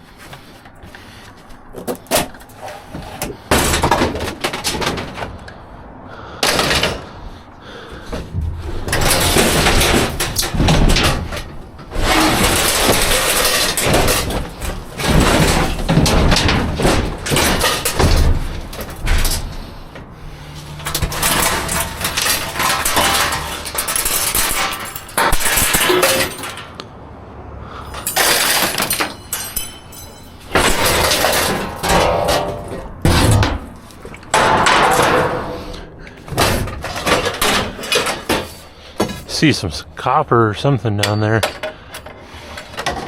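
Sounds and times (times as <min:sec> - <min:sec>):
scrap metal clattering in dumpster: 0:01.8 - 0:26.8, 0:27.7 - 0:39.4.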